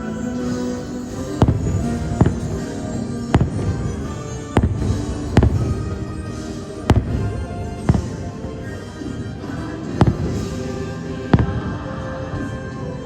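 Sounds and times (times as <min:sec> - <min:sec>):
fireworks bangs: 0:00.0 - 0:13.0
soundtrack music: 0:00.0 - 0:13.0.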